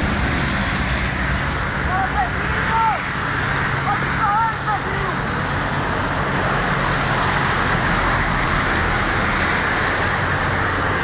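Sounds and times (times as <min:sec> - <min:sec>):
road traffic roar: 0:00.0 - 0:11.0.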